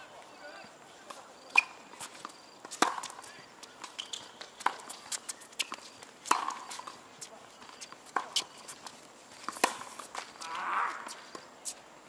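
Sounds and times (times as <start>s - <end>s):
shoe scuffs on court: 1.1s - 11.8s.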